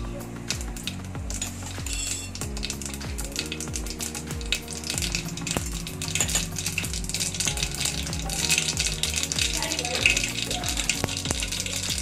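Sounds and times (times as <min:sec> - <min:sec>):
background music with low beat: 0:00.0 - 0:12.0
seeds sizzling in hot oil: 0:00.0 - 0:12.0.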